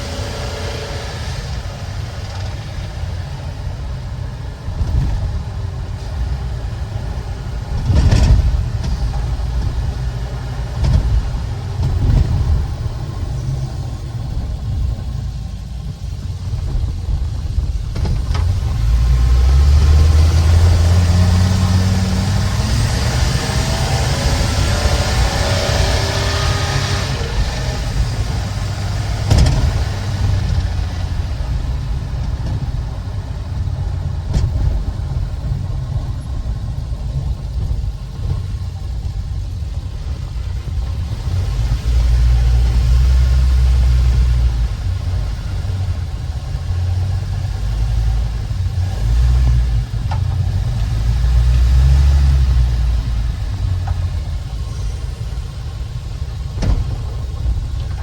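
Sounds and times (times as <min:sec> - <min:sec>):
engine running with low rumble: 0:00.0 - 0:58.0.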